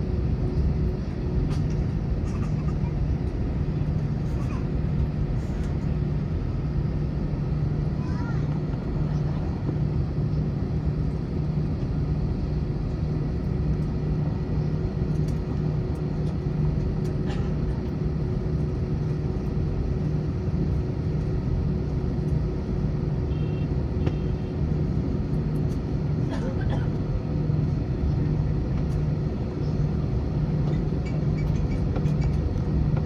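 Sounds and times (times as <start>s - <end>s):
aircraft engines idling rumble: 0.0s - 33.0s
steady cabin hum: 0.0s - 33.0s.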